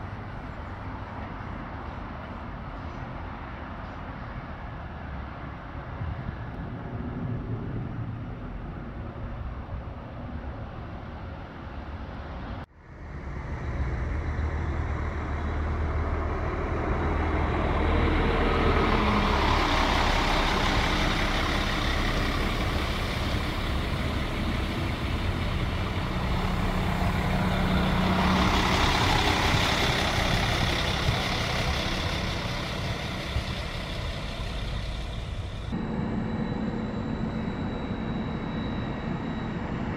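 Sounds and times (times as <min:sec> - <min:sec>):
diesel railcar engine drone: 0:00.0 - 0:39.9
wheel and rail rumble: 0:00.0 - 0:39.9.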